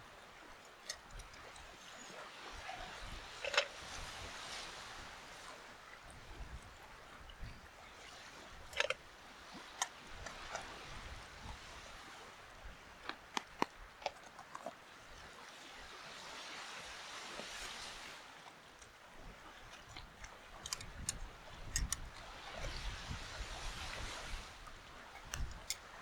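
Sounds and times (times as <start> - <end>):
surf washing: 0.0 - 12.6, 15.3 - 18.4, 20.6 - 26.0.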